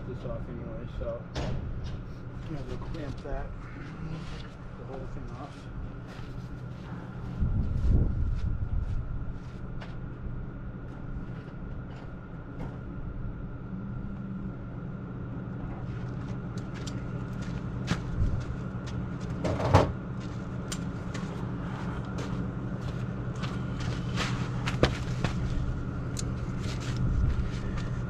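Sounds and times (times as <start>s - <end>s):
steady mechanical hum: 0.0s - 28.0s.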